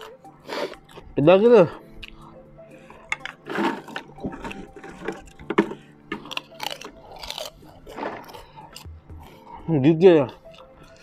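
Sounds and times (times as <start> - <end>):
person chewing wetly: 0.0 - 1.2, 1.8 - 9.6, 10.4 - 11.0.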